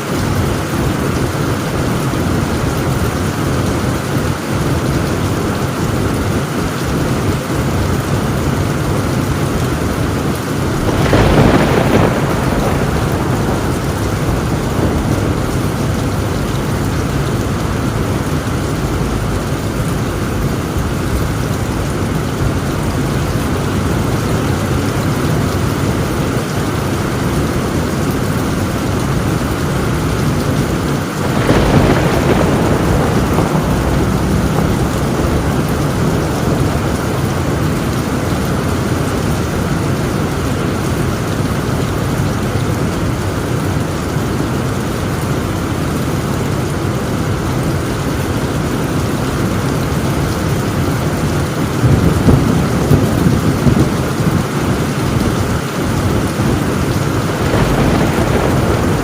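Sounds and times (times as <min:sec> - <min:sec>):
thunderclaps: 0:00.0 - 0:43.2, 0:47.2 - 0:59.0
heavy rain on a tin roof: 0:00.0 - 0:59.0.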